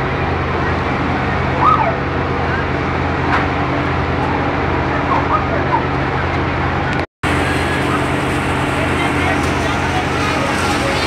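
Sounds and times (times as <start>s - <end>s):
large engine idling: 0.0s - 11.0s
street noise: 0.0s - 11.0s.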